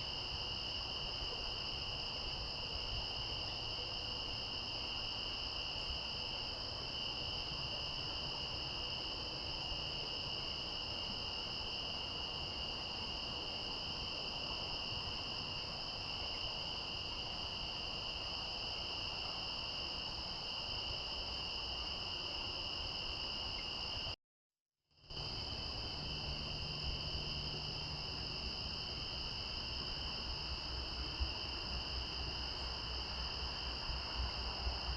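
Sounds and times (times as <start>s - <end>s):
crickets trilling: 0.0s - 24.1s, 25.1s - 34.9s
faint outdoor background noise: 0.0s - 24.2s, 25.0s - 34.9s.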